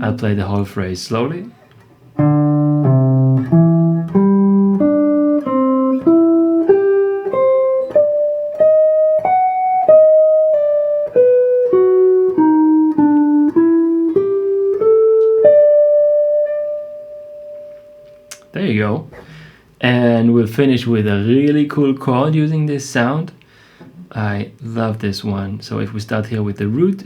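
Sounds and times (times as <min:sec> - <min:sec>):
guitar playing jazz line: 0:00.0 - 0:22.6.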